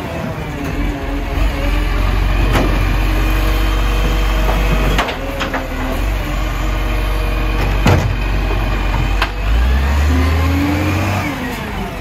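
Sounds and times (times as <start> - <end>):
garbage truck engine rumble: 0.0 - 12.0.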